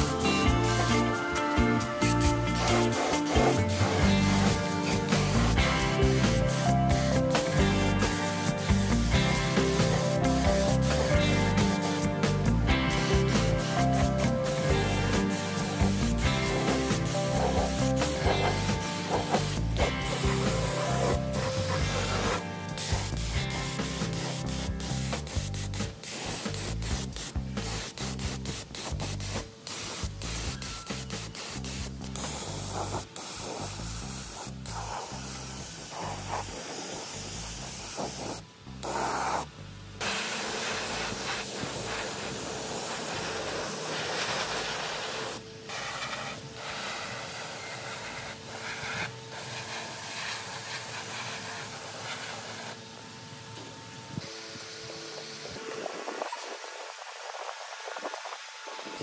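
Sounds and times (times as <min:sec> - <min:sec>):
spray gun hissing: 0:00.0 - 0:53.0.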